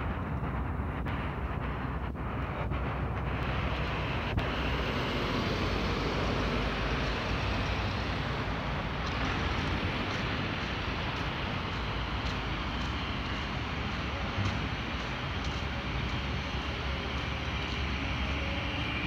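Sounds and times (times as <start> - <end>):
distant road traffic: 0.0 - 19.0
wind rumble on microphone: 0.0 - 19.0.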